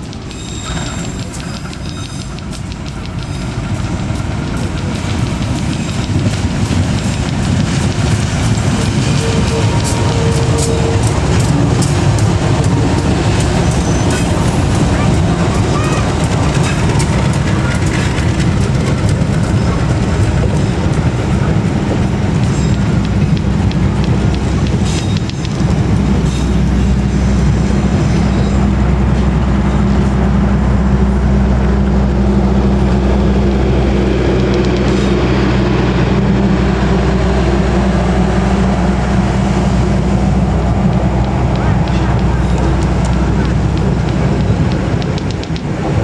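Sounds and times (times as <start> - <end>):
passenger train rolling past: 0.0 - 46.0
steady low drone: 0.0 - 46.0.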